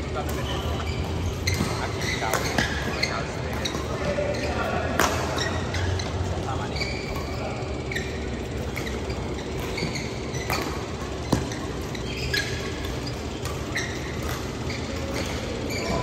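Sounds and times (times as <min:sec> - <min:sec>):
shoes squeaking on court floor: 0:00.0 - 0:16.0
rackets hitting shuttlecock: 0:00.1 - 0:05.8, 0:07.0 - 0:16.0.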